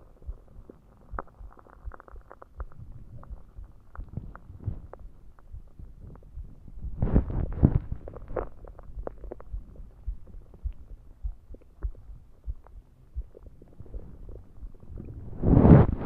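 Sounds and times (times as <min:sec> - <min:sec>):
heartbeat thumps: 0:00.0 - 0:16.0
stomach gurgling: 0:00.0 - 0:16.0.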